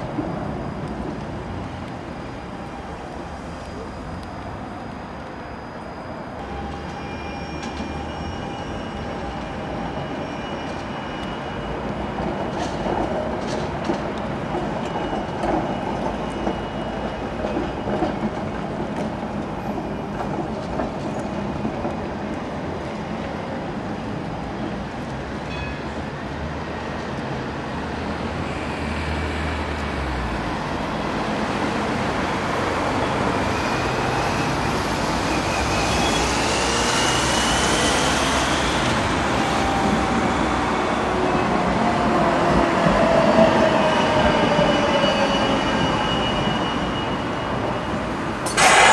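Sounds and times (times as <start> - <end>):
tram rail rumble: 0.0 - 48.9.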